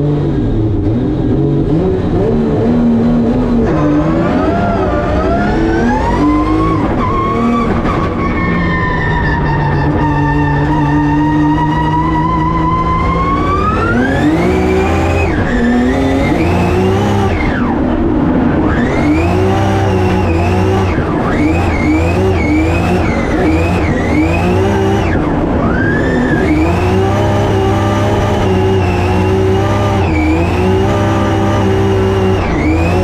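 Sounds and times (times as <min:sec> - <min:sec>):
car engine revving: 0:00.0 - 0:33.0
tyre and road noise: 0:00.0 - 0:33.0.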